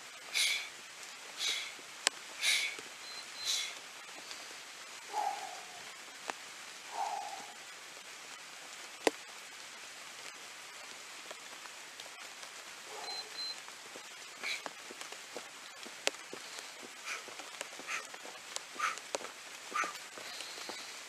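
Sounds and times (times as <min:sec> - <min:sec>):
light rain hissing: 0:00.0 - 0:21.0.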